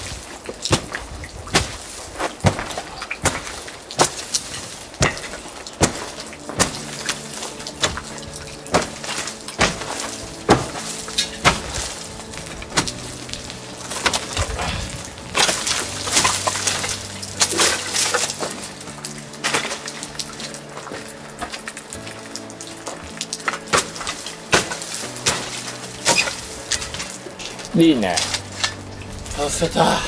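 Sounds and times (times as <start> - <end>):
crumbling debris clattering: 0.0 - 30.0.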